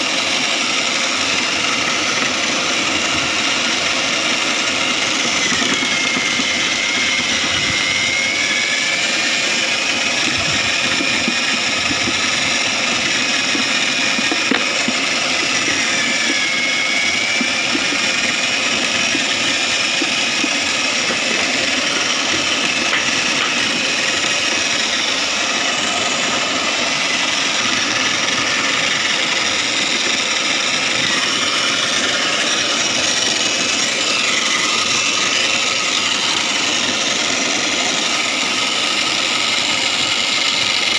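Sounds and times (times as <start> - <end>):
shredding machine whining: 0.0 - 40.9.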